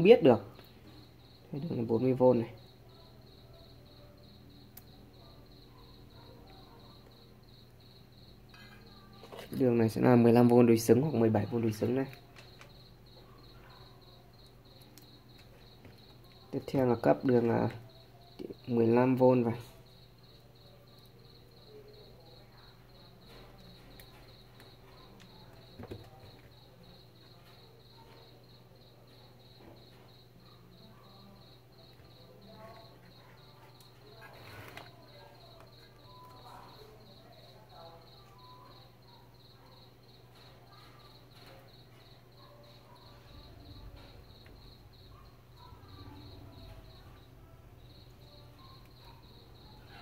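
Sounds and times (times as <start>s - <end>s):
insect chirping: 0.0s - 50.0s.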